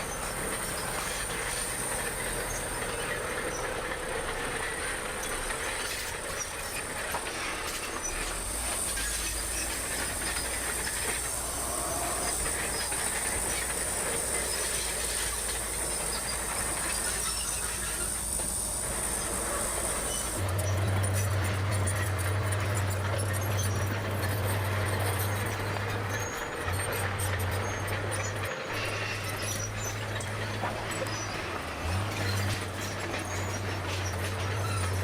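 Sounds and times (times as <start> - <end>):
bulldozer diesel engine running: 0.0 - 35.0
steel tracks clanking: 0.0 - 35.0.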